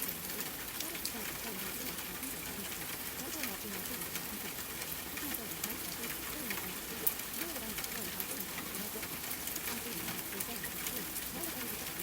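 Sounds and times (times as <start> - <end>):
low murmuring voice: 0.0 - 12.0
steady rain: 0.0 - 12.0.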